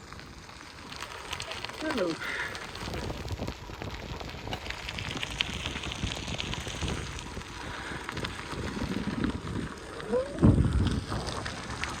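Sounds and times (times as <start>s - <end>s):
bicycle tyres rolling on grit: 0.0s - 12.0s.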